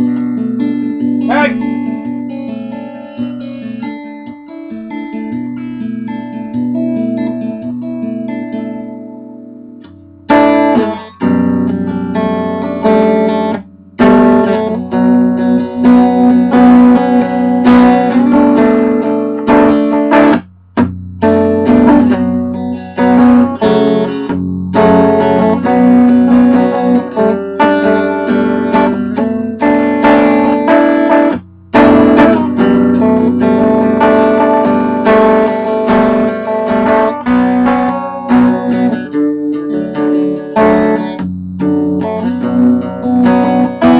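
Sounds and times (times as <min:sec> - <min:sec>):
guitar strummed and picked: 0:00.0 - 0:43.9.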